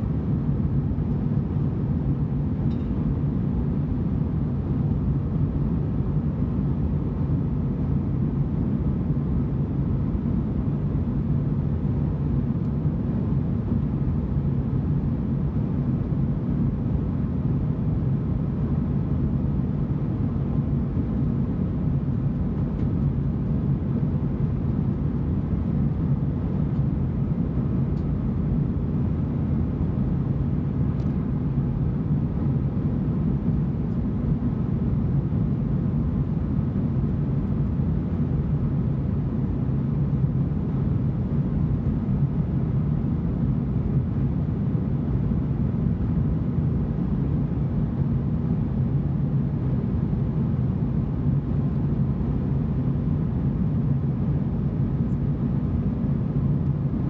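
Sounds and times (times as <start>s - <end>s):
airliner engine rumble: 0.0s - 57.0s.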